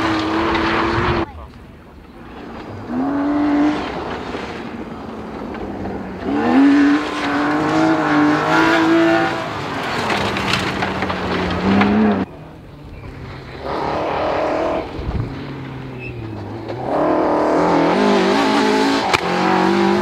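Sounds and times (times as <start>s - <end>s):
rally car engine revving: 0.0s - 1.3s, 2.0s - 20.0s.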